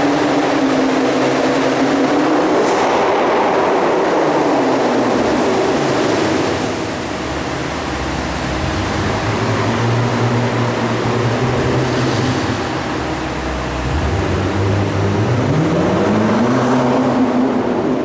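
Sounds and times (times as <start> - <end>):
road and wind noise: 0.0 - 18.0
sports car engine: 0.0 - 18.0.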